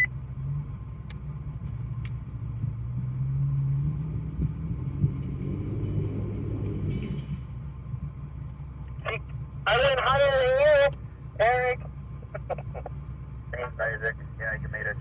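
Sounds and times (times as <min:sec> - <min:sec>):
truck engine droning at low revs: 0:00.0 - 0:15.0.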